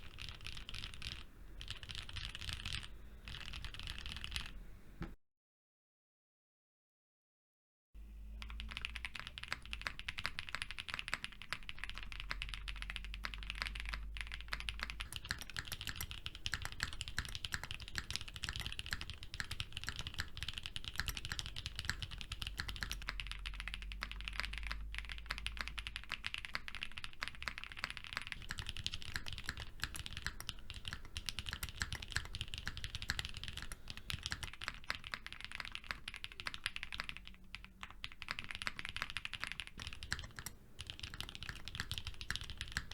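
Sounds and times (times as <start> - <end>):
fast mechanical keyboard typing: 0.0 - 4.6, 8.3 - 42.9.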